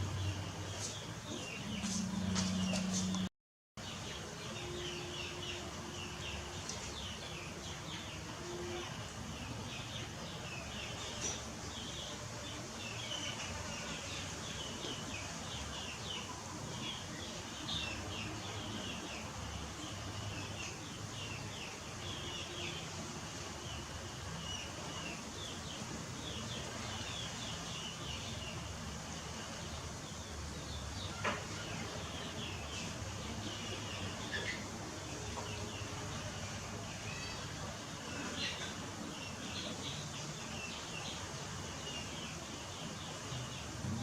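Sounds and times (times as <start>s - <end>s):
small birds chirping: 3.8s - 44.0s.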